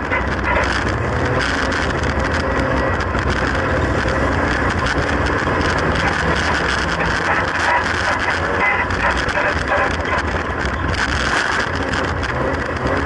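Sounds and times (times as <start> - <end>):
car engine running: 0.0 - 13.0
road and wind noise: 0.0 - 13.0.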